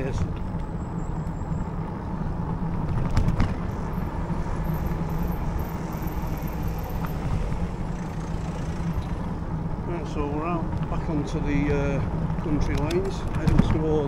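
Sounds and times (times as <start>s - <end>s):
bike tyres rolling on tarmac: 0.0s - 14.0s
wind rumble on microphone: 0.0s - 14.0s.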